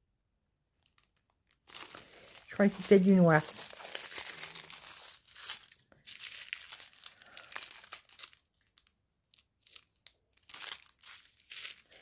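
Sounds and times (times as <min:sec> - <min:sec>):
plastic bag crinkling: 0:00.8 - 0:12.0.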